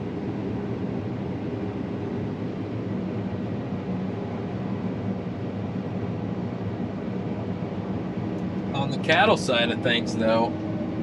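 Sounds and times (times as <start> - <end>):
combine harvester droning: 0.0 - 11.0.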